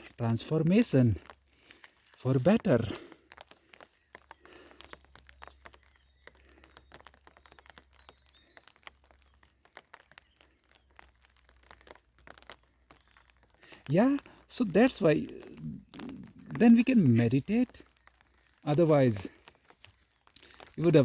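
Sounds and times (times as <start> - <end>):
faint clicks and crackles: 0.0 - 21.0.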